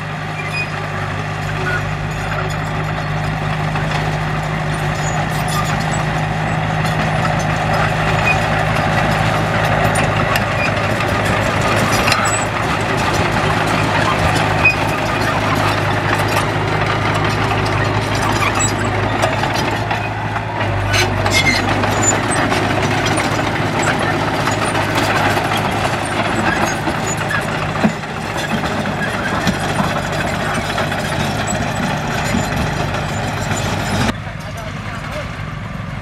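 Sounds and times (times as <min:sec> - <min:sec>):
diesel engine running: 0:00.0 - 0:36.0
machine clattering on gravel: 0:01.5 - 0:35.2.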